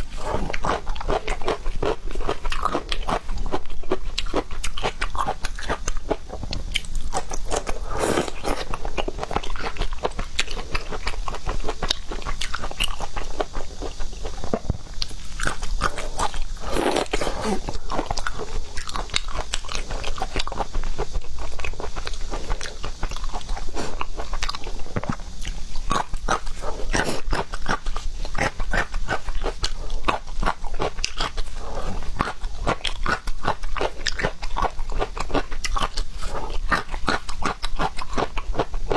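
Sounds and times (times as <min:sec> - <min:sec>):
chewing and crunching: 0:00.0 - 0:38.9.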